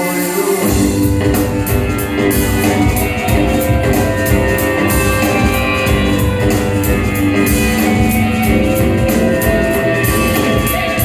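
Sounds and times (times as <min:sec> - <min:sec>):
drum kit beat: 0:00.0 - 0:11.0
rock band guitar: 0:00.0 - 0:11.0.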